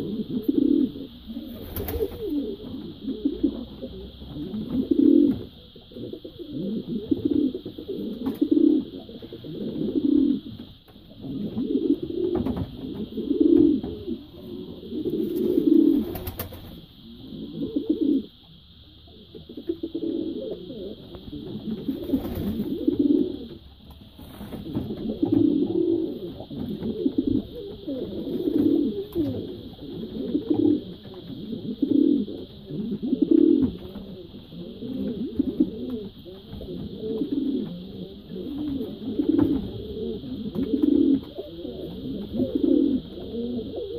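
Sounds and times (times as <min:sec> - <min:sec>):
faint high-pitched hum: 0:00.0 - 0:43.9
pigeons cooing: 0:00.0 - 0:43.9.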